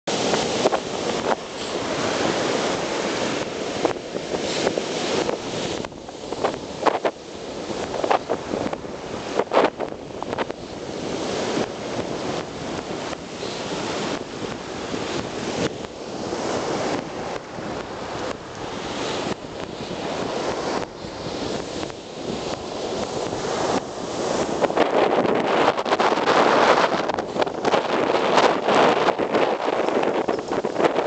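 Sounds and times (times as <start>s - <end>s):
surf washing over sand: 0.1s - 31.0s
wind buffeting microphone: 0.1s - 31.0s.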